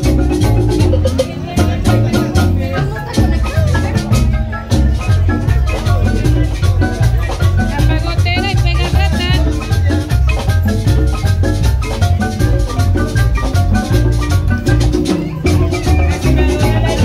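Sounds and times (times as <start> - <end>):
music with pulsing drum beat: 0.0 - 17.0
wavering high melody: 0.0 - 17.0.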